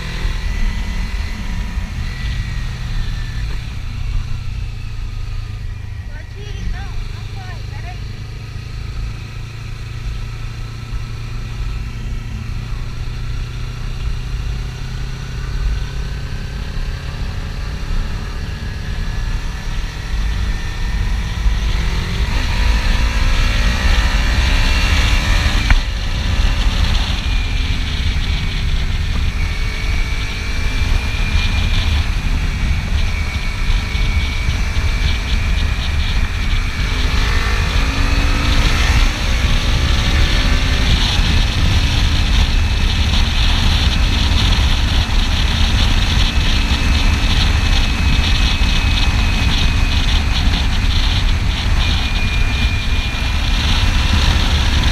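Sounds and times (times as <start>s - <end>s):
motorcycle engine running: 0.0s - 54.9s
wind rushing over microphone: 0.0s - 54.9s.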